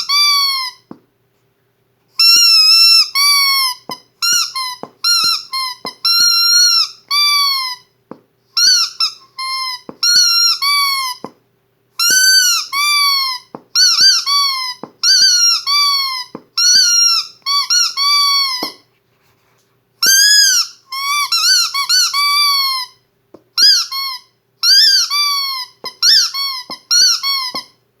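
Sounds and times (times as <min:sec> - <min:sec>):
squeaky dog toy squeaking: 0:00.0 - 0:01.0, 0:02.2 - 0:07.9, 0:08.6 - 0:11.4, 0:12.0 - 0:18.9, 0:20.0 - 0:23.0, 0:23.6 - 0:27.8.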